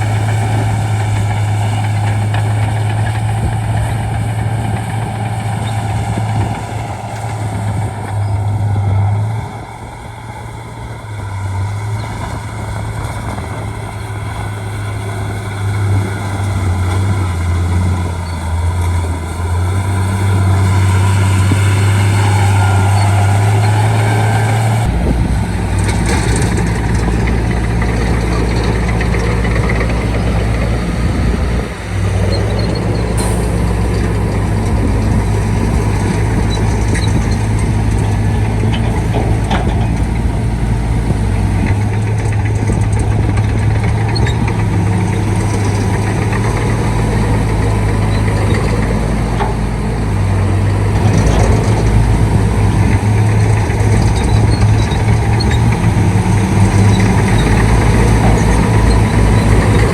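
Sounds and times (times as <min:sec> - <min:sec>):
bulldozer diesel engine running: 0:00.0 - 0:59.9
engine knocks: 0:00.0 - 0:59.9.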